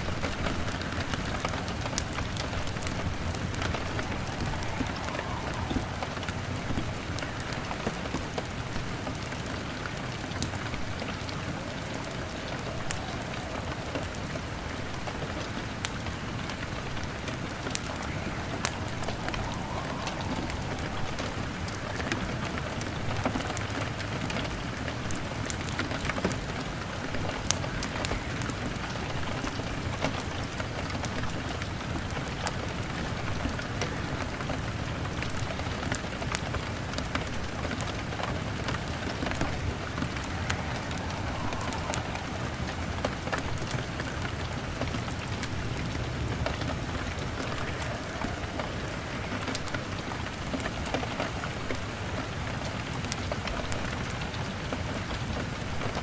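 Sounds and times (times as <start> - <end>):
rain on a window: 0.0 - 56.0
wood fire crackling: 0.0 - 56.0.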